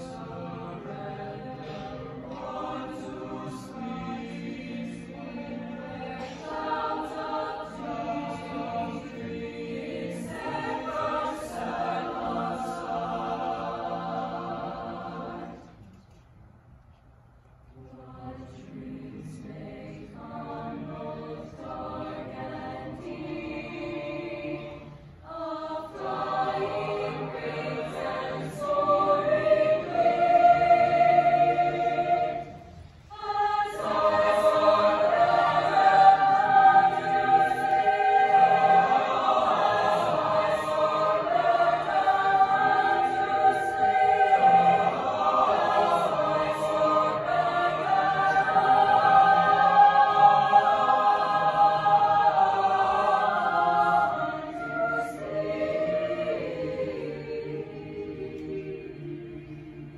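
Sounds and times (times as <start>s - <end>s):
mixed choir singing: 0.0s - 15.9s, 17.7s - 59.9s.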